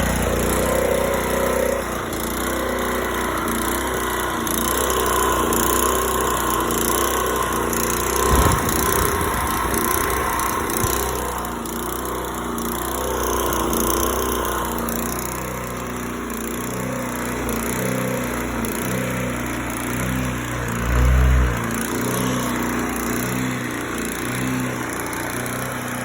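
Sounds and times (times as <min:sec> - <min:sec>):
small gas engine running: 0:00.0 - 0:26.0.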